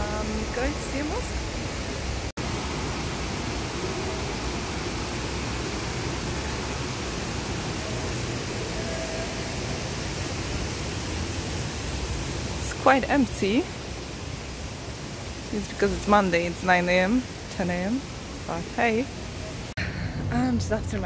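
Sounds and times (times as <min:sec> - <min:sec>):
river rushing through concrete channel: 0:00.0 - 0:19.7.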